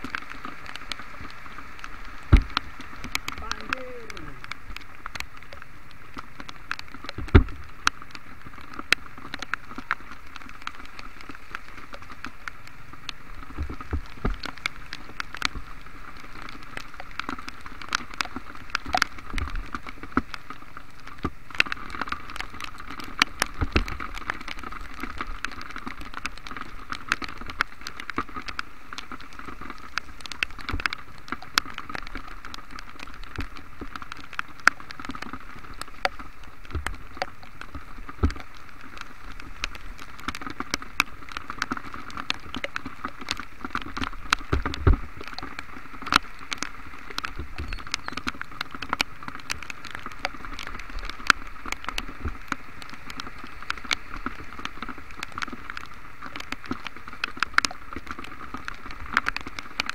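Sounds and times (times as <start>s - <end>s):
heavy rain hiss: 0.0s - 59.9s
raindrops tapping: 0.0s - 59.9s.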